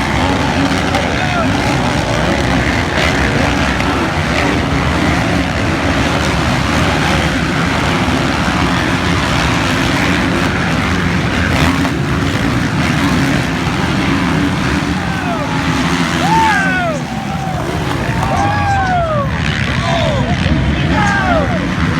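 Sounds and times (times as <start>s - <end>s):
motocross bike engines racing: 0.0s - 21.9s.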